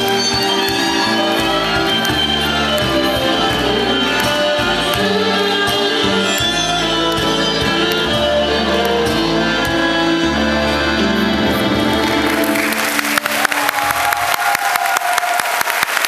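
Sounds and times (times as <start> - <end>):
accordion: 0.0 - 13.0
upright bass held notes: 0.0 - 13.1
violin: 0.0 - 14.4.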